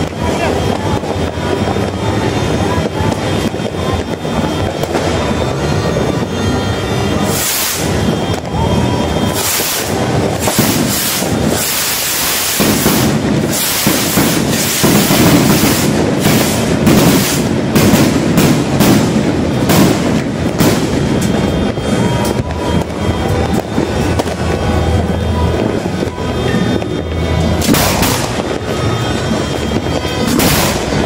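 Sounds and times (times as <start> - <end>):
constant rumble: 0.0 - 31.0
fireworks and firecrackers banging: 0.0 - 31.0.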